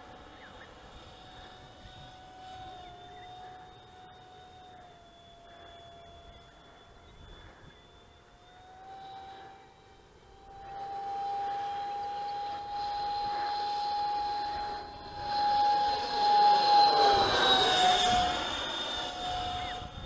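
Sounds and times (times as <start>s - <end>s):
model jet engine whine: 0.0s - 20.0s.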